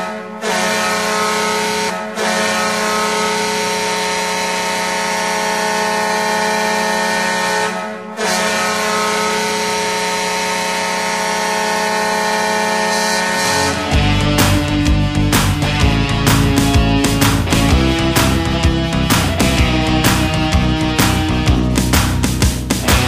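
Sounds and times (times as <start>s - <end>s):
hockey goal horn blasts: 0.0s - 21.7s.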